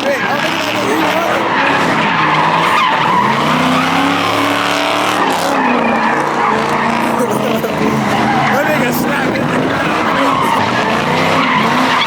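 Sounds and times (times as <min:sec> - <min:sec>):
car engine revving: 0:00.0 - 0:12.0
tyres spinning and squealing: 0:00.0 - 0:12.0.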